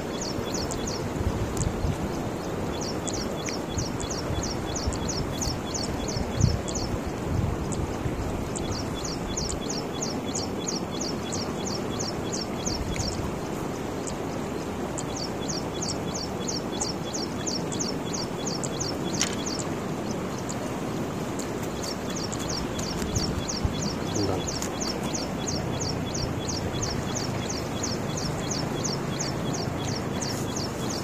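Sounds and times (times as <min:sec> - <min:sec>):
bird chirping: 0:00.0 - 0:01.1, 0:01.8 - 0:07.8, 0:08.5 - 0:20.7, 0:21.4 - 0:31.0
steady outdoor rushing noise: 0:00.0 - 0:31.0.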